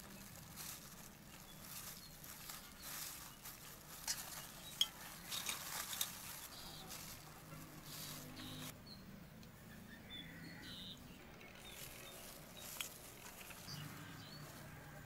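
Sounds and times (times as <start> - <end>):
gloved hands crinkling and rustling: 0.0 - 8.7, 11.2 - 15.0.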